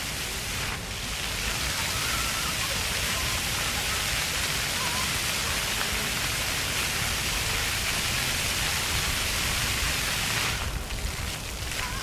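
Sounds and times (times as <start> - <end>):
fountain water jets splashing: 0.0 - 12.0.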